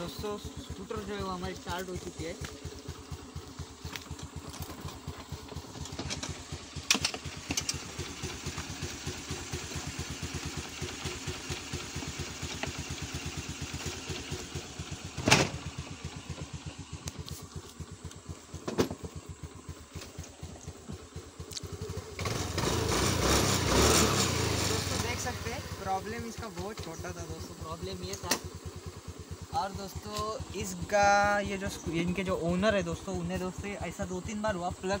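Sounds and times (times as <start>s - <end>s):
scooter engine idling: 0.0s - 35.0s.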